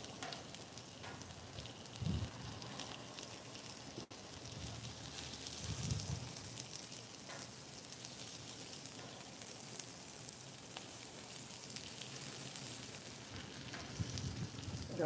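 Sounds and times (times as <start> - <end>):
chicken sizzling on griddle: 0.0 - 15.0.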